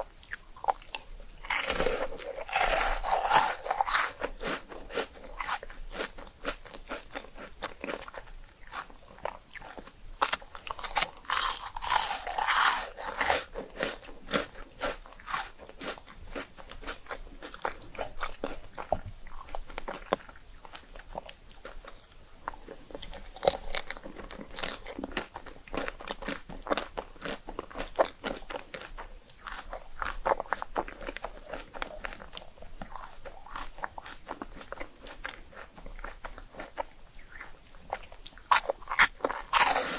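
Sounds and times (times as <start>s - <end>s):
rice cakes crunching: 0.0s - 39.9s.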